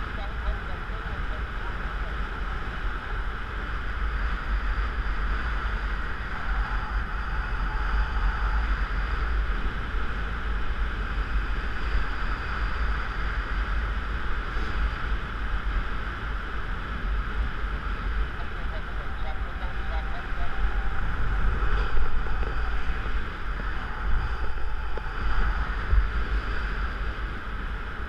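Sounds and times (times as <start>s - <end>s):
low rumble of buffeting: 0.0s - 28.0s
wind hiss on microphone: 0.0s - 28.0s.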